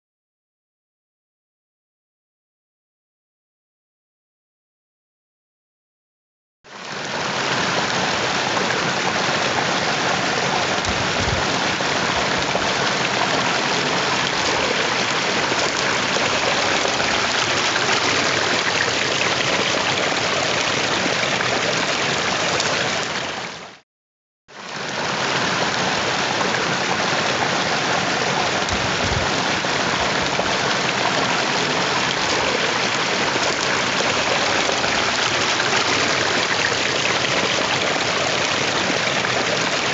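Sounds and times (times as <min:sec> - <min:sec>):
water rushing over rocks: 0:06.7 - 0:23.8, 0:24.6 - 0:39.9.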